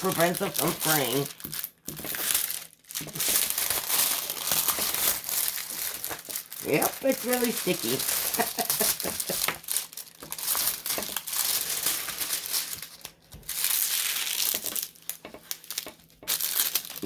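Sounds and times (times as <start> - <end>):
plastic film crinkling as peeled: 0.0 - 17.0.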